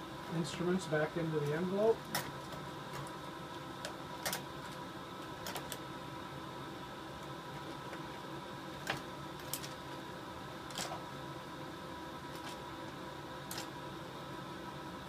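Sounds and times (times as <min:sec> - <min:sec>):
equipment humming: 0:00.0 - 0:15.0.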